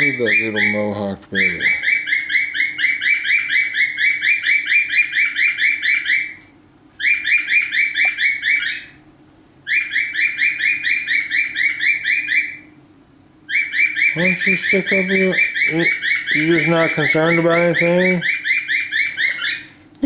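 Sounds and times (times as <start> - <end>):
baby bird chirping rapidly: 0.0 - 6.4, 7.0 - 9.0, 9.7 - 12.7, 13.5 - 19.8.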